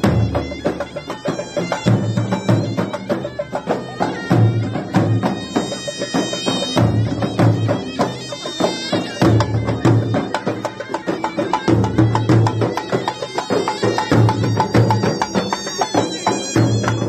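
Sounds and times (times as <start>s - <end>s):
frame drums beating fast rhythm: 0.0s - 17.0s
shrill reed wind instrument: 0.0s - 17.0s.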